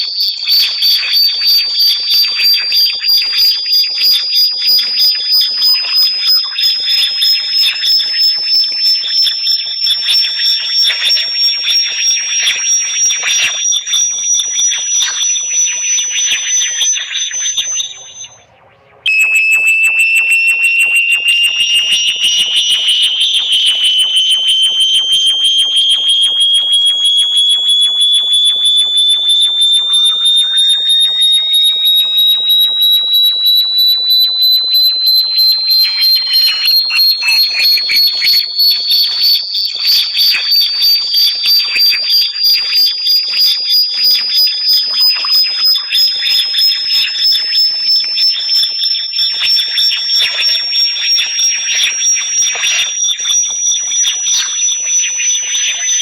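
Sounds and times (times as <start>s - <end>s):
shrill pulsing electronic whistle: 0.0s - 56.0s.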